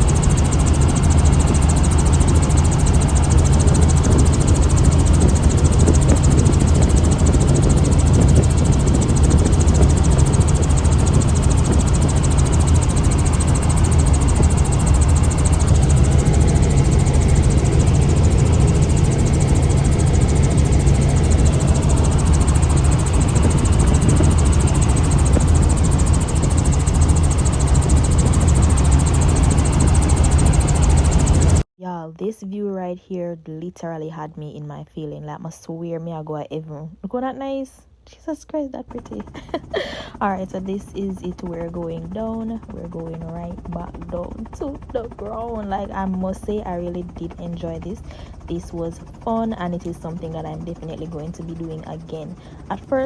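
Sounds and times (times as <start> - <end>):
helicopter engine and rotor noise: 0.0 - 31.7, 38.9 - 53.0.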